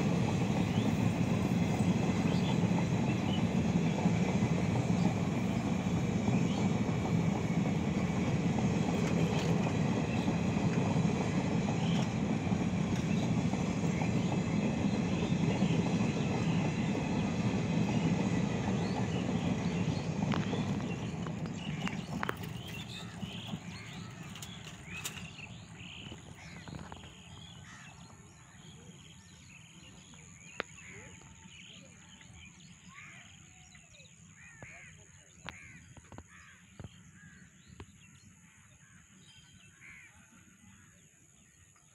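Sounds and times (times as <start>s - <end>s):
train wheels rumbling on track: 0.0s - 40.6s.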